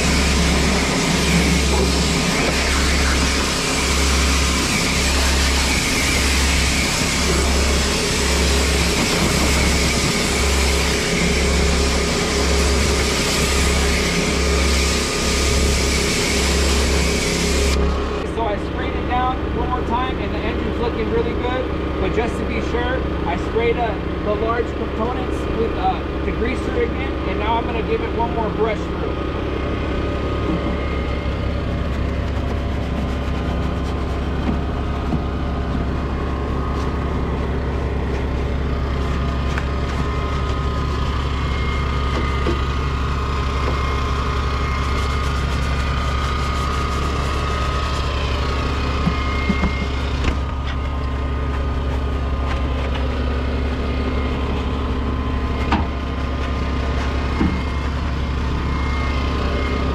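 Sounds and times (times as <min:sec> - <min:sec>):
small engine droning: 0:00.0 - 0:59.9.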